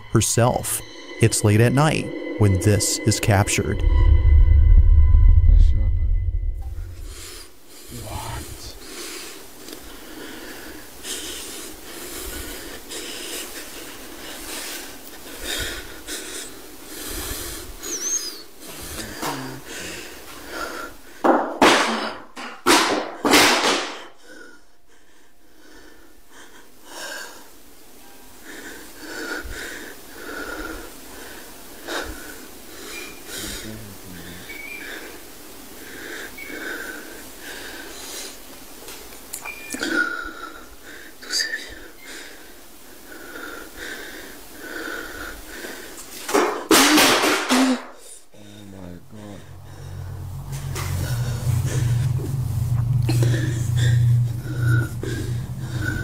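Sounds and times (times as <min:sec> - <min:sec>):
woman breathing heavily with wheeze: 0:06.7 - 0:22.2, 0:23.7 - 0:46.7, 0:47.7 - 0:56.0.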